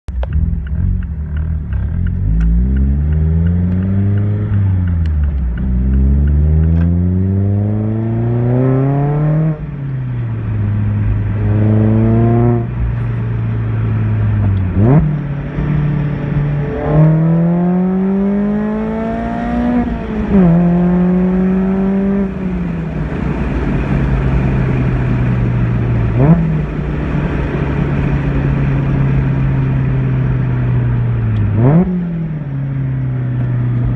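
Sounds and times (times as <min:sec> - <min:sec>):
car engine accelerating: 0:00.1 - 0:33.9
engine throttle blips: 0:00.1 - 0:33.9.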